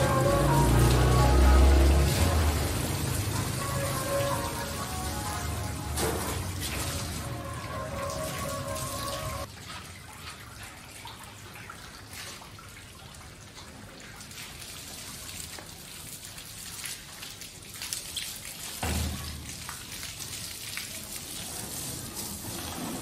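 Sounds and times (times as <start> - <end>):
hose water spattering on car: 0.0 - 10.4, 14.3 - 23.0
dripping water: 0.0 - 23.0.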